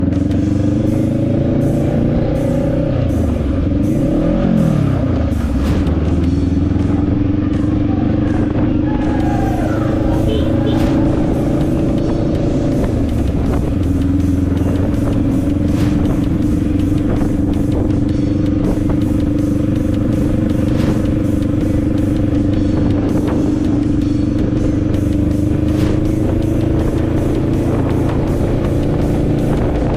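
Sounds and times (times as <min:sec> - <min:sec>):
motorcycle engine running: 0:00.0 - 0:29.9
music: 0:00.0 - 0:29.9.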